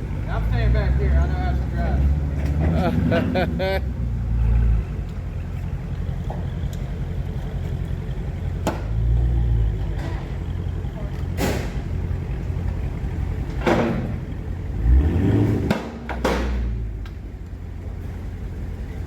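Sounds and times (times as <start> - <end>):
car exhaust rumble: 0.0 - 19.0.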